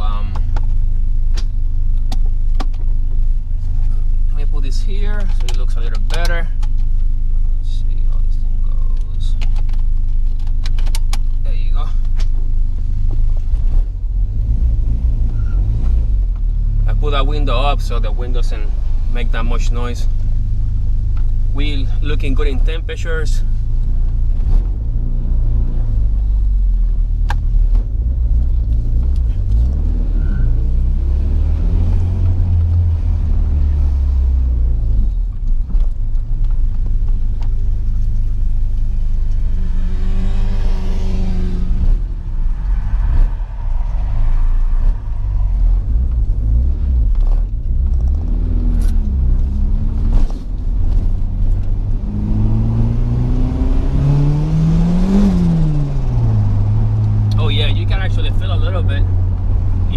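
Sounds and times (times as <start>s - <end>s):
car engine while driving: 0.0s - 59.9s
road rumble: 0.0s - 59.9s.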